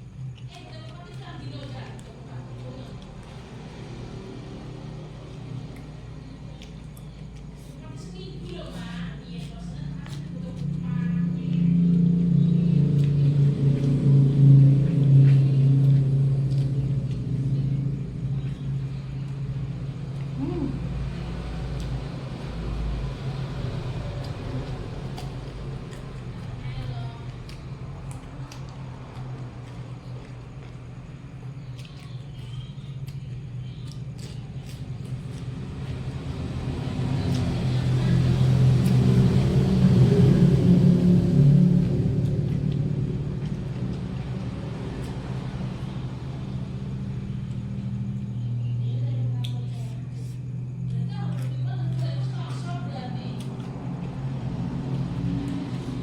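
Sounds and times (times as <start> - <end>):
faint chewing clicks: 0.0 - 56.0
low engine-like rumble: 0.0 - 56.0.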